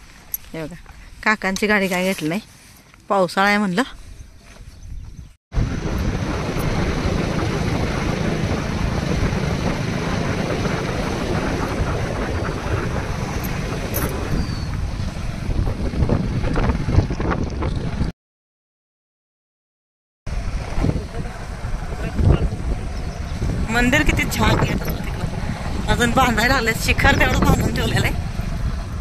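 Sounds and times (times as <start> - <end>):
wind buffeting microphone: 3.6 - 18.1, 20.3 - 29.0.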